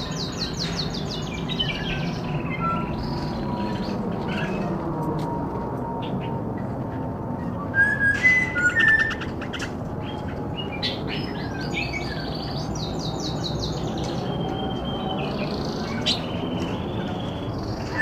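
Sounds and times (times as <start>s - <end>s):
birds chirping: 0.0s - 5.0s, 5.8s - 18.0s.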